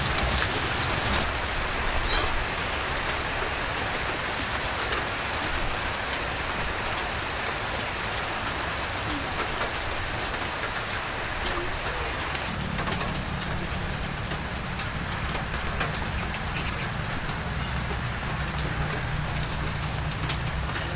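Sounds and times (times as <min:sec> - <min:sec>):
light rain falling: 0:00.0 - 0:20.9.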